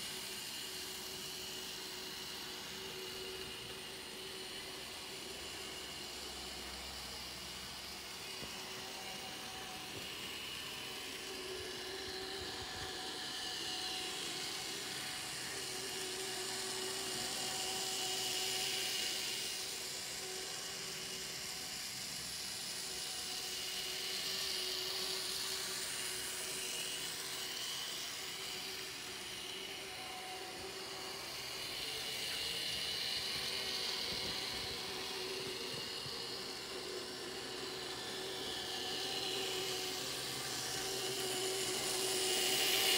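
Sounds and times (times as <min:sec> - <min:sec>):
model train motors whining: 0:00.0 - 0:42.9.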